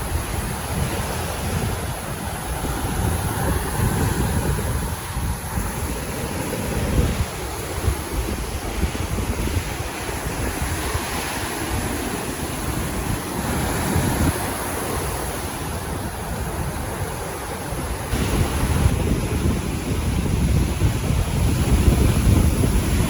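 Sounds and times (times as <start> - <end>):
sea surf on beach: 0.0 - 23.0
wind buffeting microphone: 0.0 - 23.0.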